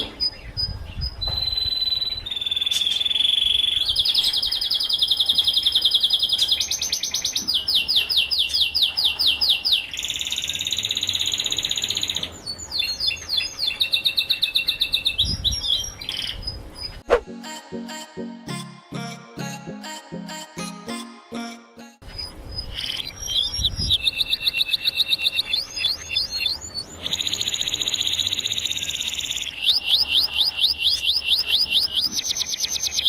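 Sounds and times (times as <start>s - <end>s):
canary singing trills: 0.0s - 17.1s, 22.0s - 33.0s.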